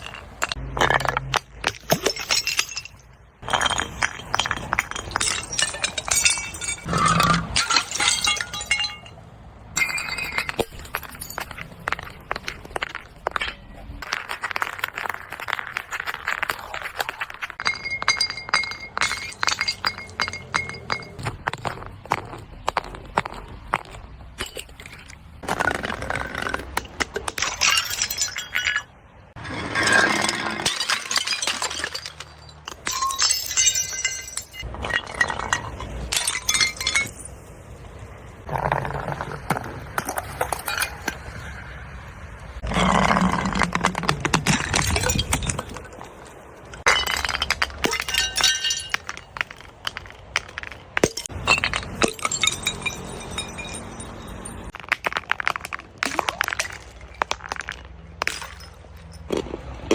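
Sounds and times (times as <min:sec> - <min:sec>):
glass bottles smashing: 0:00.0 - 0:09.2, 0:09.8 - 0:22.3, 0:23.8 - 0:37.4, 0:43.1 - 0:46.0, 0:46.7 - 0:59.4.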